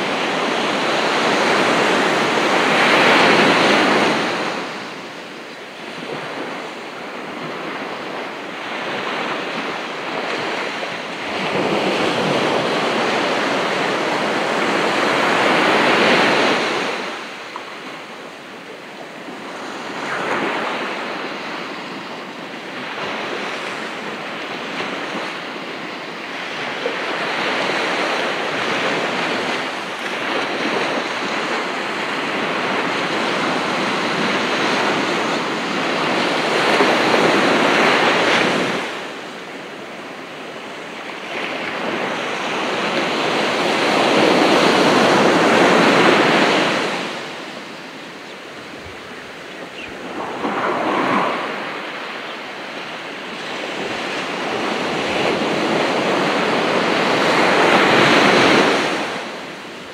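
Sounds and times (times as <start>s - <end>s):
ocean waves breaking on a beach: 0.0s - 59.9s.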